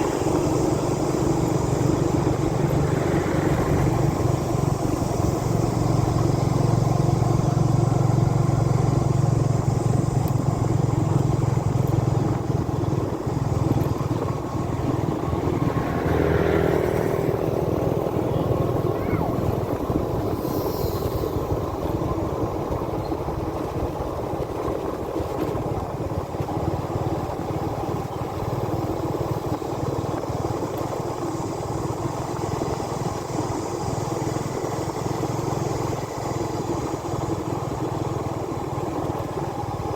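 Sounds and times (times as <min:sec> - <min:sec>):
motorbike engine running: 0:00.0 - 0:39.9
road and wind noise: 0:00.0 - 0:39.9.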